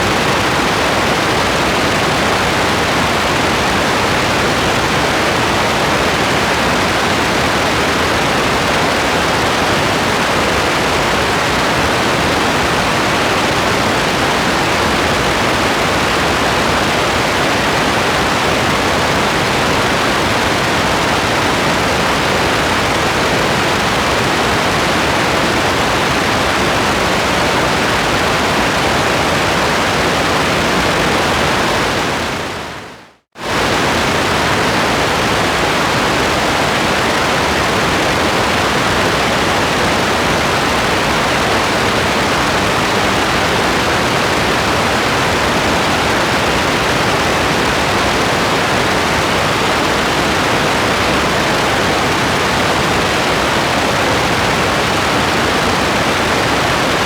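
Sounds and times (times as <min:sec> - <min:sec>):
steady dense rain hiss: 0:00.0 - 0:57.0.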